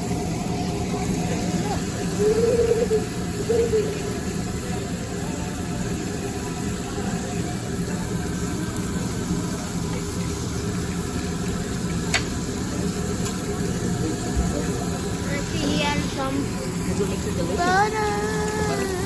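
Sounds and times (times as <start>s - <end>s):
griddle hiss: 0.0s - 19.0s.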